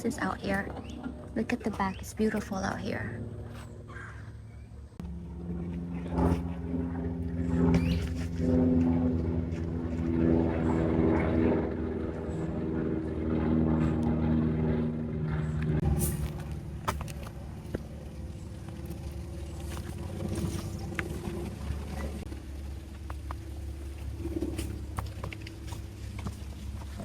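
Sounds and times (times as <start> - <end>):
engine running with low drone: 0.0 - 27.0.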